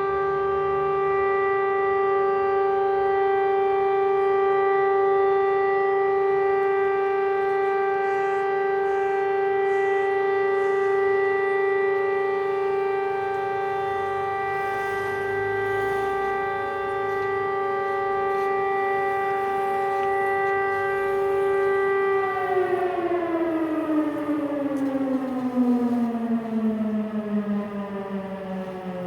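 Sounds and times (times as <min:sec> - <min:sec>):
warning siren wailing: 0:00.0 - 0:29.0.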